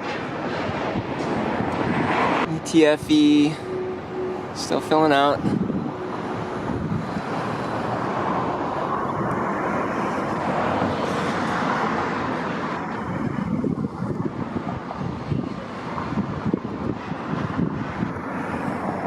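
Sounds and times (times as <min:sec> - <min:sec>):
passing vehicles rushing: 0:00.0 - 0:19.0.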